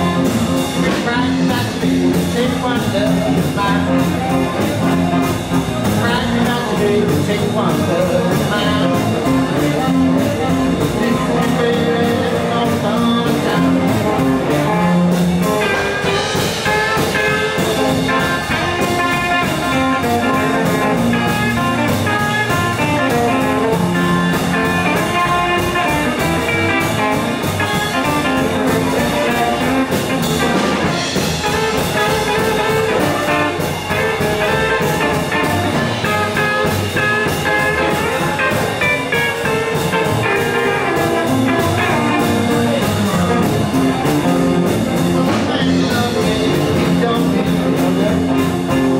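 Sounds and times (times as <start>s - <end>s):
double bass: 0.0s - 48.9s
drum kit: 0.0s - 48.9s
electric guitar: 0.0s - 48.9s
harmonica lead notes: 8.6s - 48.9s.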